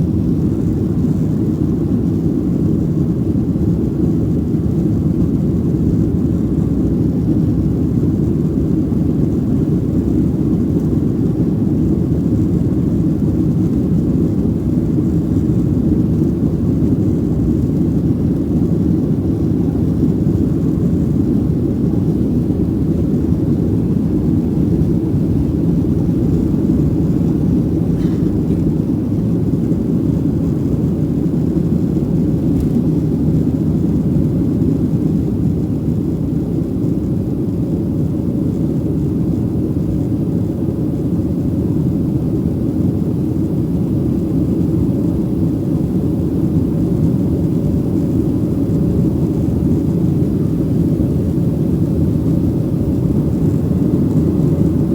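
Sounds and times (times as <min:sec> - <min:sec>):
jet engines during takeoff: 0:00.0 - 0:54.9.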